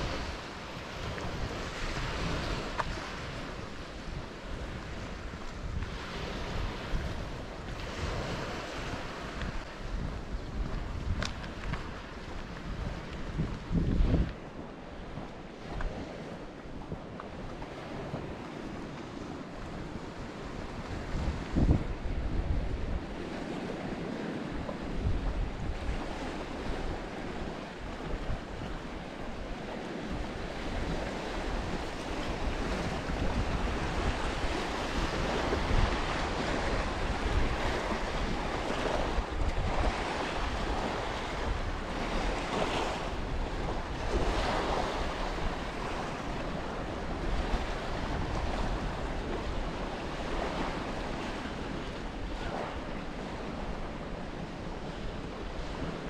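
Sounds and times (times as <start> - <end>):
waves on a shingle beach: 0.0 - 56.0
wind buffeting microphone: 0.0 - 56.0.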